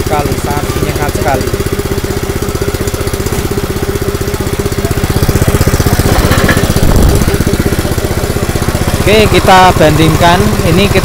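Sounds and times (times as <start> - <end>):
petrol engine running: 0.0 - 11.0.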